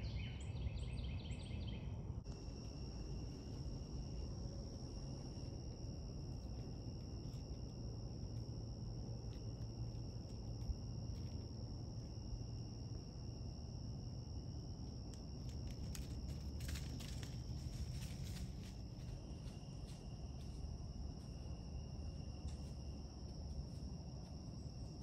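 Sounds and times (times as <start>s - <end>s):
insects trilling: 0.0s - 25.0s
low background rumble: 0.0s - 25.0s.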